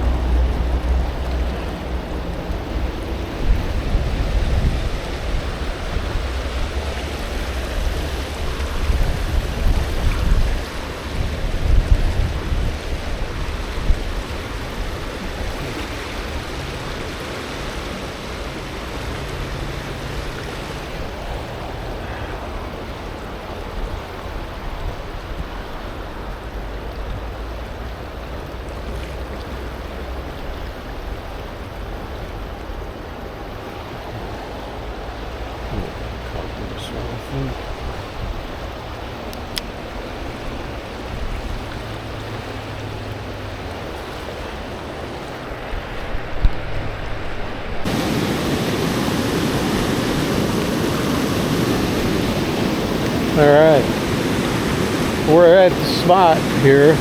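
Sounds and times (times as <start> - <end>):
flowing river water: 0.0 - 57.0
wind rumble on microphone: 0.0 - 57.0.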